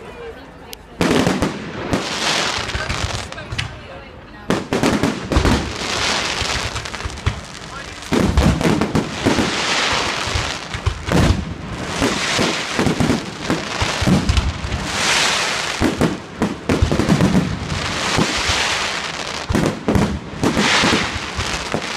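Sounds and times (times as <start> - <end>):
fireworks bangs and pops: 1.0 - 21.9
fireworks crackling hiss: 1.0 - 21.9.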